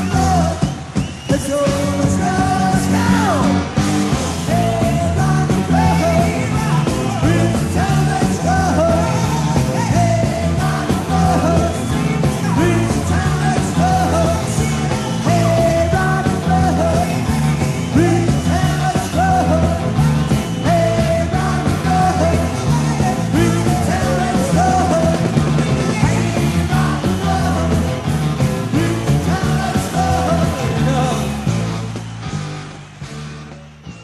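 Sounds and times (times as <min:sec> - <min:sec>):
lead singer singing: 0:00.0 - 0:31.5
rock and roll band playing: 0:00.0 - 0:34.0.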